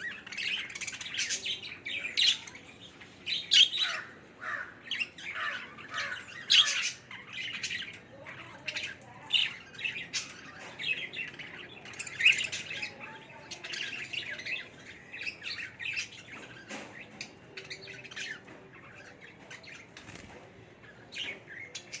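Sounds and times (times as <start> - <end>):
parakeets chirping and squawking: 0.0 - 22.0.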